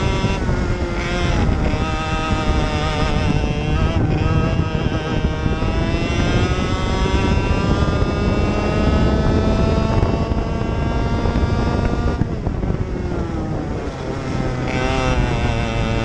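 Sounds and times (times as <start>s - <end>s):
racing kart engine at full throttle: 0.0s - 16.0s
wind buffeting microphone: 0.0s - 16.0s.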